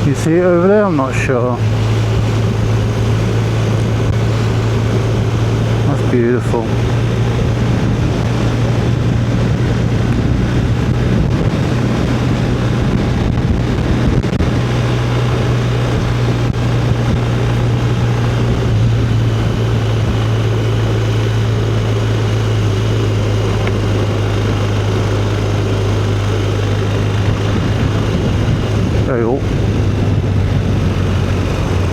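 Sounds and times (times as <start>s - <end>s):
motorcycle engine running: 0.0s - 31.9s
wind and road noise: 0.0s - 31.9s.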